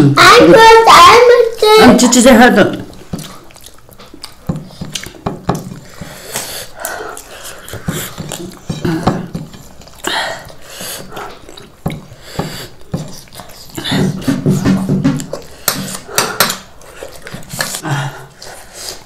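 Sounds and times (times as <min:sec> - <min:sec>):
slurping: 0:02.7 - 0:19.0
chewing: 0:02.8 - 0:19.0
lip-smacking: 0:02.8 - 0:19.0.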